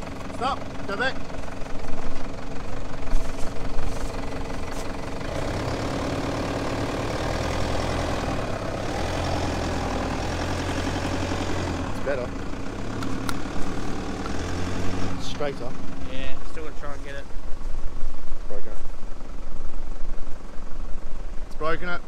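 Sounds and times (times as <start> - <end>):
engine running at low revs: 0.0 - 22.0.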